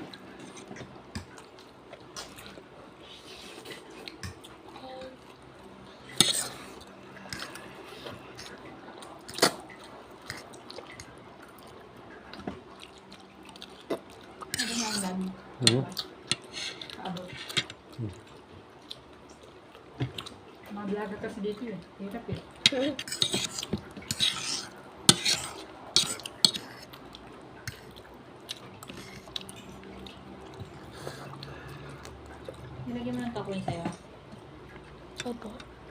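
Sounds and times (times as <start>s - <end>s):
person chewing: 0.0s - 20.7s, 22.5s - 32.8s.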